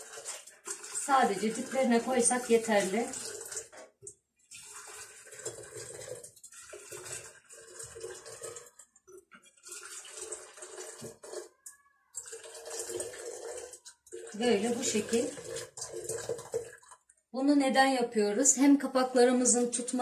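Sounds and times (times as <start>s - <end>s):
boiling water poured into glass jars: 0.0s - 17.3s.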